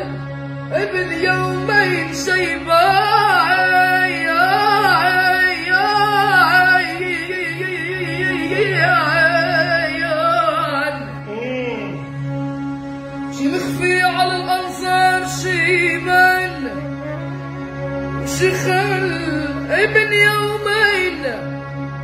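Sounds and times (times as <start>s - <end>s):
violin: 0.0s - 22.0s.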